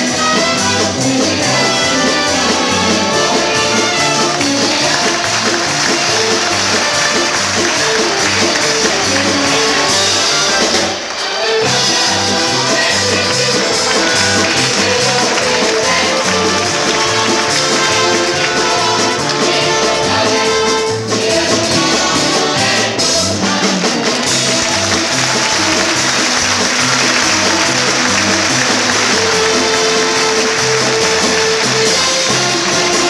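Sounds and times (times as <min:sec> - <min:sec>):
upbeat song with live band: 0:00.0 - 0:33.0.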